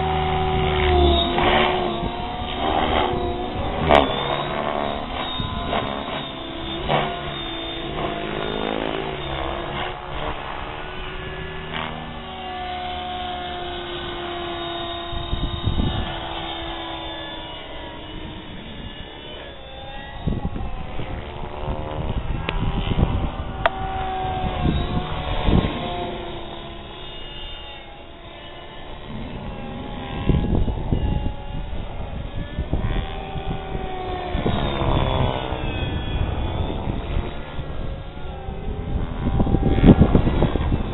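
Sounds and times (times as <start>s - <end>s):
model helicopter motor whine: 0.0s - 40.9s
rotor blades whooshing: 0.0s - 40.9s.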